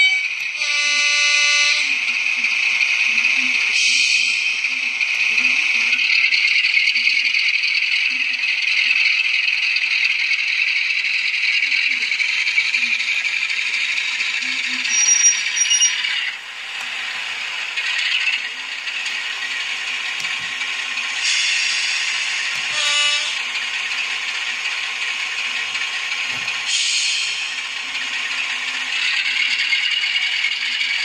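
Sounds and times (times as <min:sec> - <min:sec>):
thin rattly diesel engine sound: 0:00.0 - 0:31.0.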